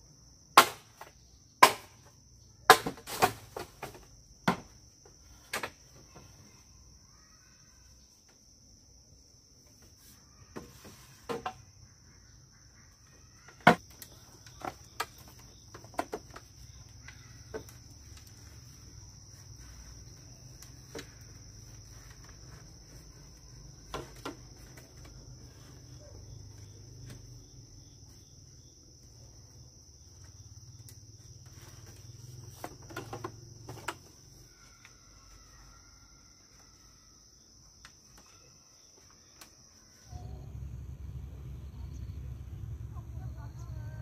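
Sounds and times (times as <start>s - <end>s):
crickets chirring: 0.0s - 44.0s.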